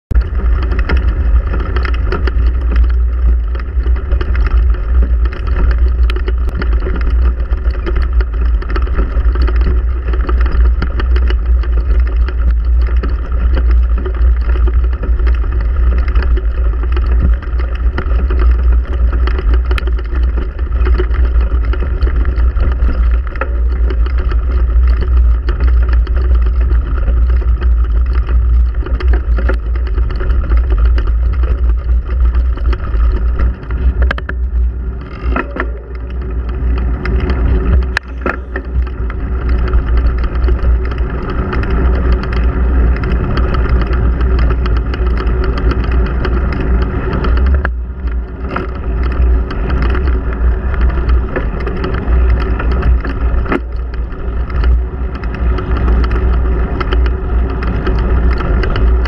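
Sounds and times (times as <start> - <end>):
wind buffeting microphone: 0.1 - 59.0.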